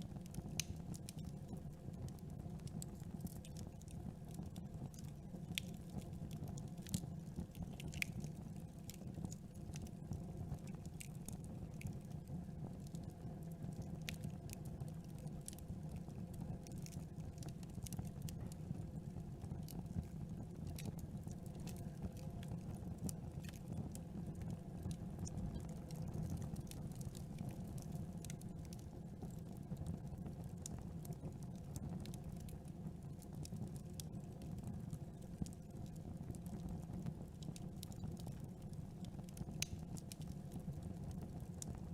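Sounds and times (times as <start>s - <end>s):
low noise of flames: 0.0s - 41.9s
wood crackling and popping: 0.1s - 41.9s.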